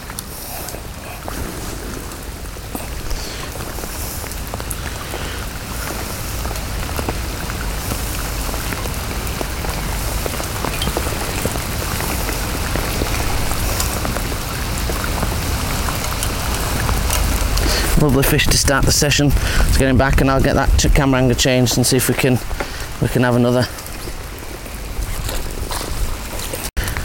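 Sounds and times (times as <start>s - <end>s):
heavy rain pattering: 0.0s - 27.0s
rain drops ticking on plastic: 0.0s - 27.0s.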